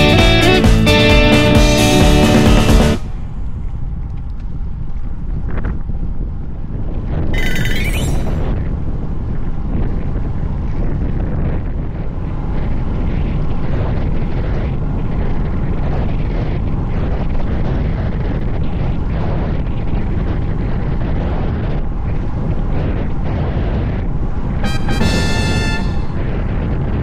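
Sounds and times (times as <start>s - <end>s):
wind buffeting microphone: 3.0s - 27.0s.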